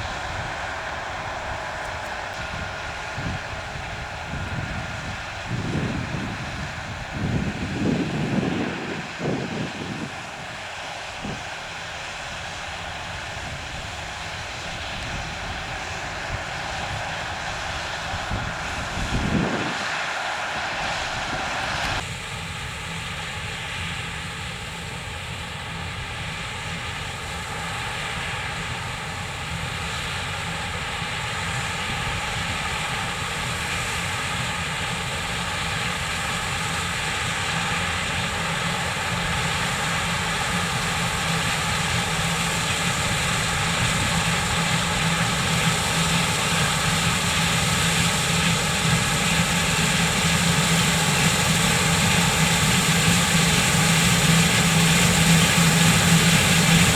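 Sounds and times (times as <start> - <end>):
farm machinery diesel engine: 0.0 - 56.9.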